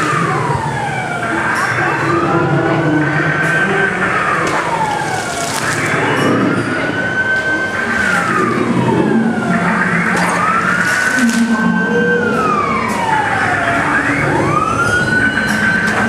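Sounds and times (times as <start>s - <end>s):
slow wailing siren: 0.0s - 16.0s.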